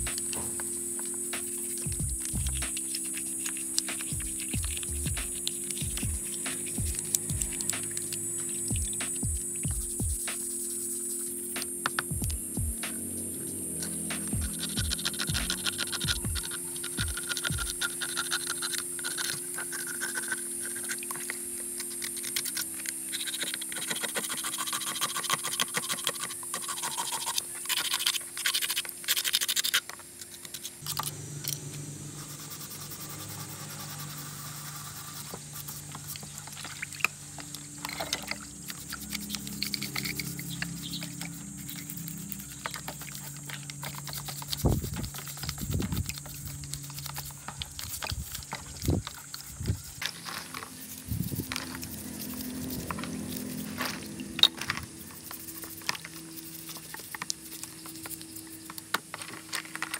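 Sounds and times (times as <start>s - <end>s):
steady motor hum: 0.0s - 59.9s.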